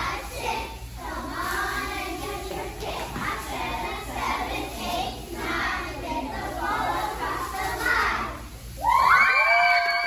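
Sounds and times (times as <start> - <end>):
girls chanting a cheer: 0.0 - 9.2.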